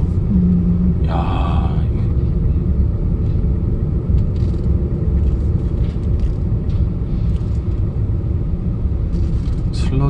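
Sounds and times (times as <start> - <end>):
air conditioning running: 0.0 - 10.0
engine and road noise rumble: 0.0 - 10.0.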